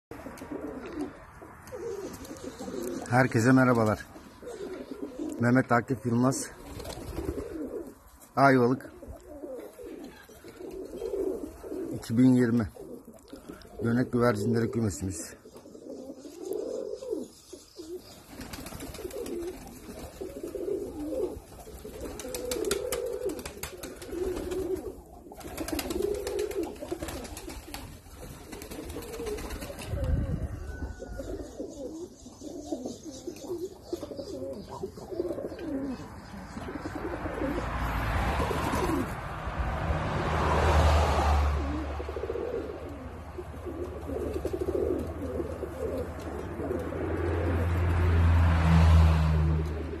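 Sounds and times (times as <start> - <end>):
pigeons cooing: 0.1 - 50.0.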